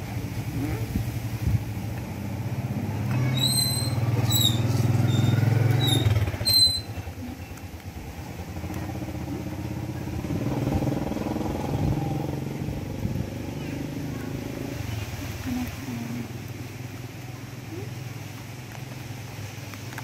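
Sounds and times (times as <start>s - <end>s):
motorbike engine passing: 1.4s - 18.1s.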